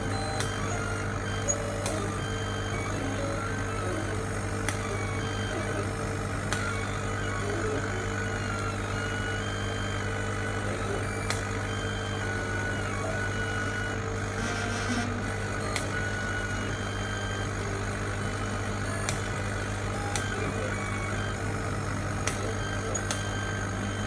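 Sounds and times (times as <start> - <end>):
machine hum: 0.0 - 24.0
stepper motors whining: 0.0 - 24.0.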